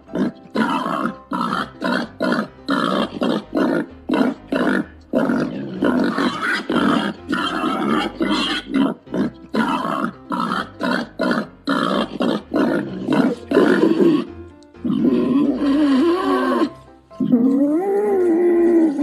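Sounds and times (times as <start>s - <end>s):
pig grunting: 0.0s - 19.0s.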